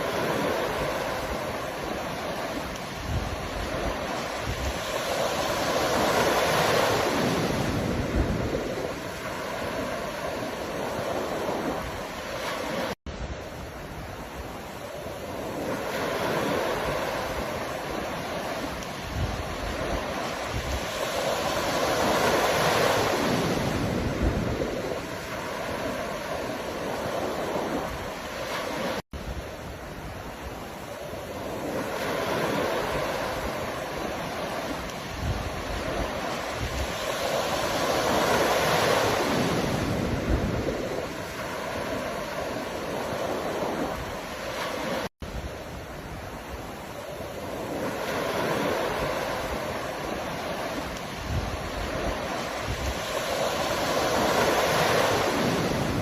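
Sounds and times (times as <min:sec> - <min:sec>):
waves breaking: 0:00.0 - 0:56.0.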